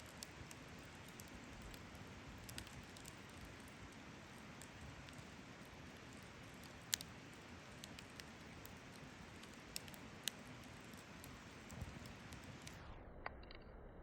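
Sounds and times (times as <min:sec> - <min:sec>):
campfire crackling: 0:00.0 - 0:12.8
sharp fire pops: 0:00.0 - 0:12.8.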